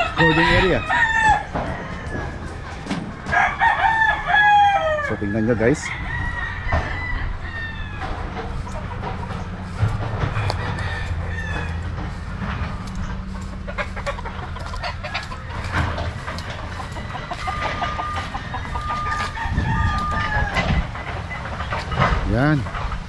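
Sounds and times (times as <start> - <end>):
roosters crowing and clucking: 0.0 - 23.0.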